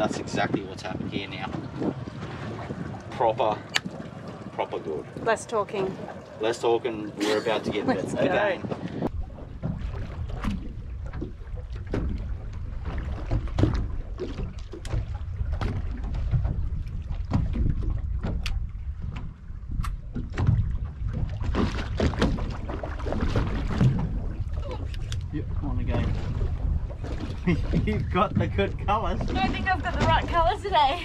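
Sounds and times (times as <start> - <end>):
water slapping against boat hull: 0.0 - 6.5, 7.5 - 31.0
wind rumble on microphone: 0.0 - 31.0.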